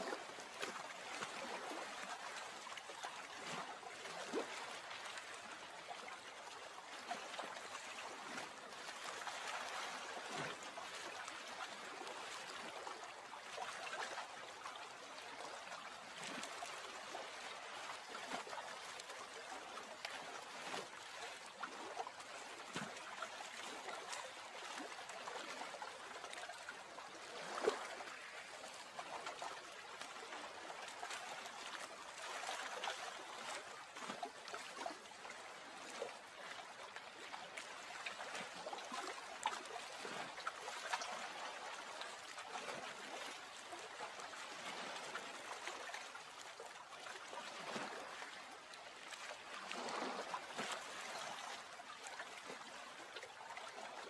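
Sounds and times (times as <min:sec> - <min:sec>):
water drips and splashes: 0:00.0 - 0:54.0
water trickling and lapping: 0:00.0 - 0:54.0.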